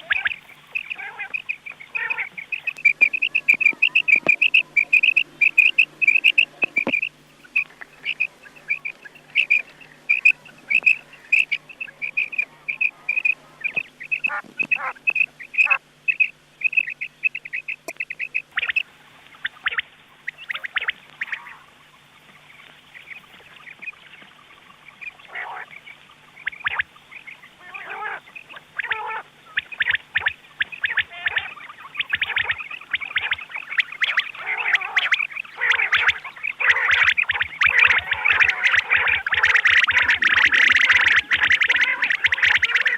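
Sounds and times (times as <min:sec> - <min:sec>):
faint steady hum: 0:00.0 - 0:42.9
recorded quail calls: 0:00.0 - 0:42.9.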